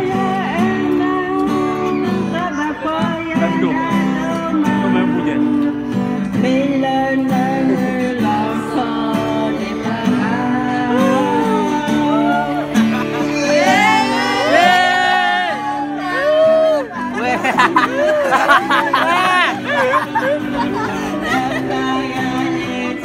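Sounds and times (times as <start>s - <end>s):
woman singing into microphone: 0.0s - 17.6s, 20.6s - 23.0s
backing track with guitar: 0.0s - 23.0s.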